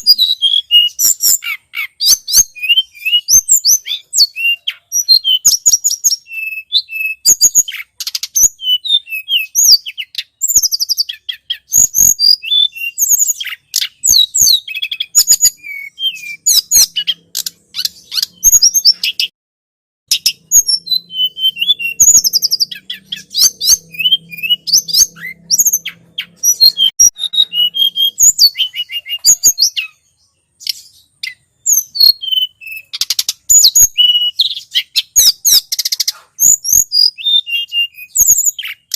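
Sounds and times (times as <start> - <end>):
bird chirps and trills: 0.0 - 19.3, 20.1 - 38.9.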